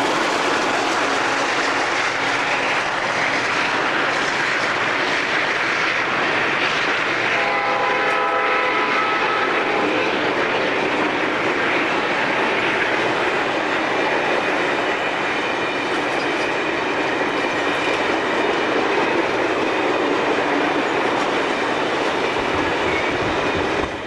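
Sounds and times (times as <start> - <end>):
train wheels rolling on rail: 0.0 - 24.0.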